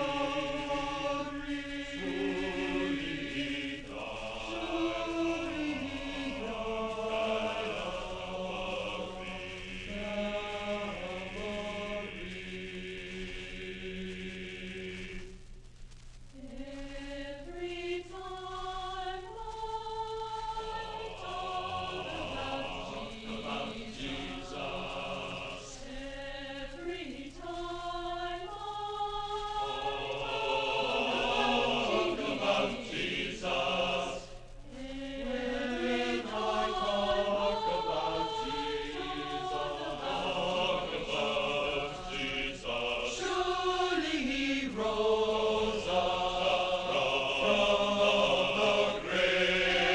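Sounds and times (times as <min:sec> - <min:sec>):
choir singing: 0:00.0 - 0:15.3, 0:16.4 - 0:49.9
faint low hum: 0:00.0 - 0:49.9.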